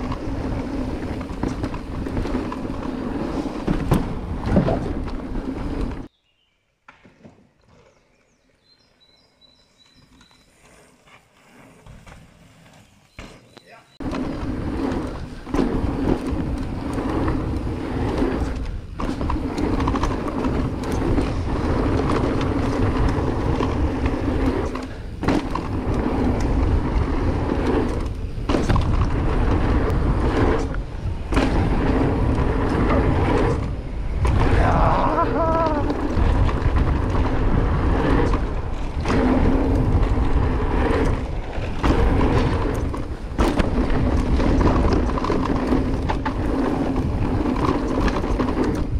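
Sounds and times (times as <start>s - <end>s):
bike tyres rattling over dirt: 0.0s - 6.1s, 8.1s - 48.9s
wind rushing over camera: 0.0s - 6.1s, 14.0s - 48.9s.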